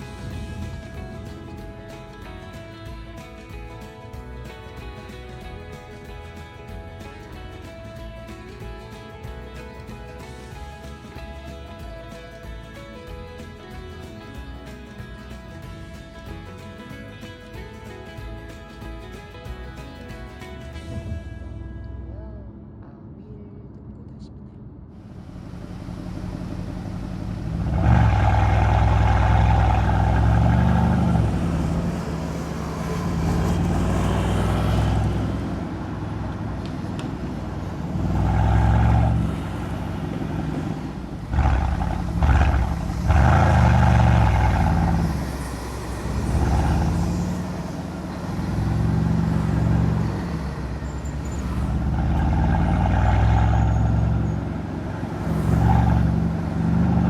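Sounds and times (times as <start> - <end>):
car exhaust accelerating: 0.0 - 22.8, 25.0 - 57.0
exhaust cracks: 0.0 - 22.9, 25.0 - 57.0.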